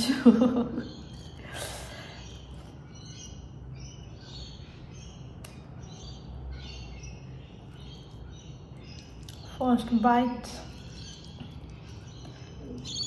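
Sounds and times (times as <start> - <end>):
faint bird chirps: 0.0 - 13.0
low steady hum: 0.0 - 13.0.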